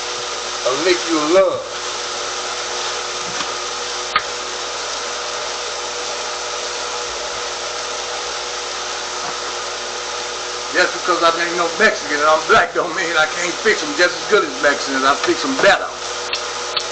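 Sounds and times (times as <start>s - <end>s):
faint grill hum: 0.0s - 16.9s
food sizzling on a grill: 0.0s - 16.9s.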